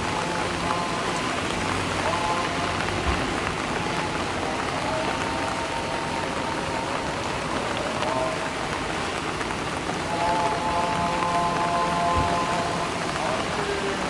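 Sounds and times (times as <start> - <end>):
rain falling on leaves: 0.0 - 14.0.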